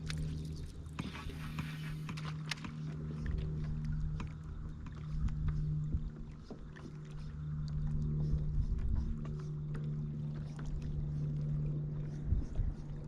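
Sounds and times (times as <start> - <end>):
motor drone on water: 0.0 - 13.0.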